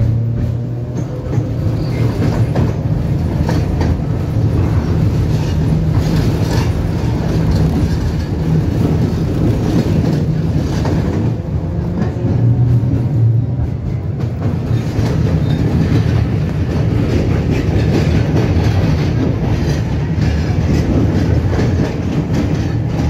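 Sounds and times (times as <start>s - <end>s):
tram wheels rumbling: 0.0s - 23.0s
wheels clacking on rails: 0.0s - 23.0s.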